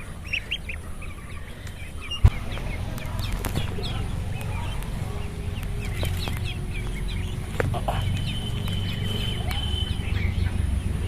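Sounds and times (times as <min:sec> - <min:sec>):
ducklings peeping: 0:00.0 - 0:11.0
steady low hum: 0:00.0 - 0:11.0.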